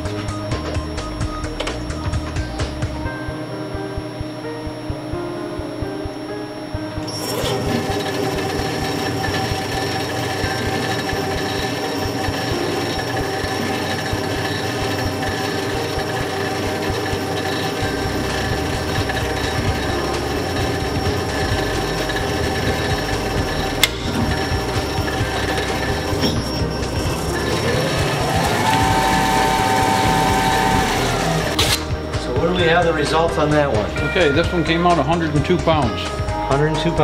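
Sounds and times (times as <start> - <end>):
testing machine whine: 0.0 - 37.0.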